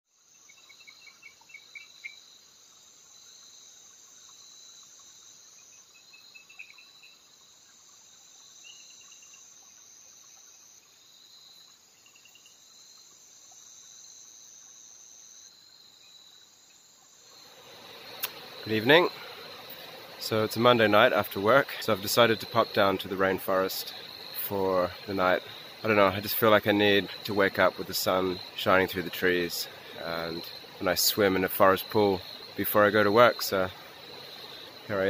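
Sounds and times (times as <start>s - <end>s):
insect chirps: 0.1s - 35.0s
insect drone: 0.1s - 35.0s.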